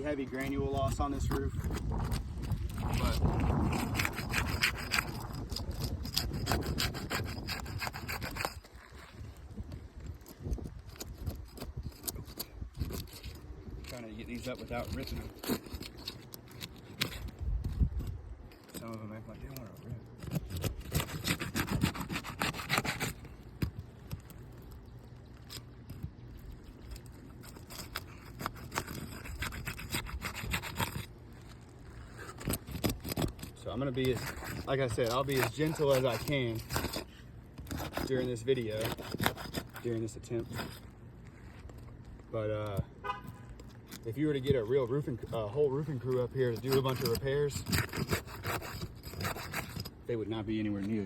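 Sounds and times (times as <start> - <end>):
pry tool scraping shingles: 0.0 - 51.0.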